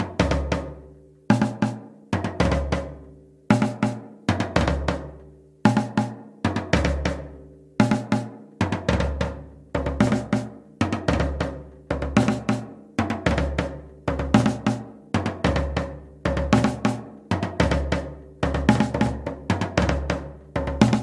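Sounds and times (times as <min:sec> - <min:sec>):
drum-heavy beat: 0:00.0 - 0:05.1, 0:05.7 - 0:21.0.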